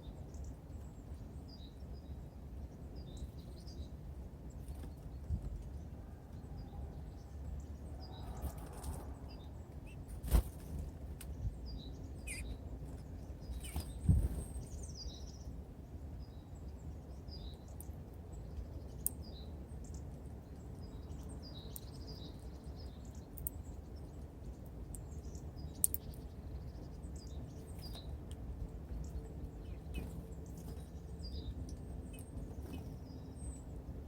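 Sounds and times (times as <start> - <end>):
low background rumble: 0.0 - 34.0
small songbirds chirping: 0.0 - 34.0.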